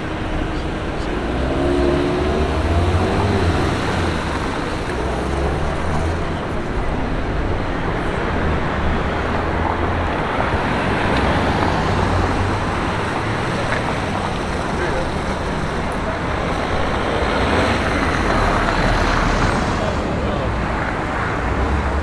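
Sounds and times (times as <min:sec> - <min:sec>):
engine accelerating: 0:00.0 - 0:22.0
rumble of passing vehicles: 0:00.0 - 0:22.0.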